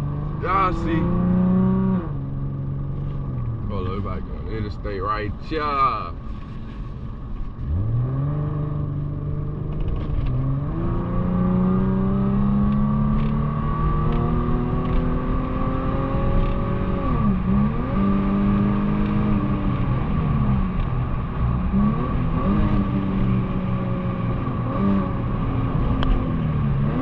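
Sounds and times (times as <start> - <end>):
car engine accelerating hard: 0.0 - 5.3, 7.4 - 27.0.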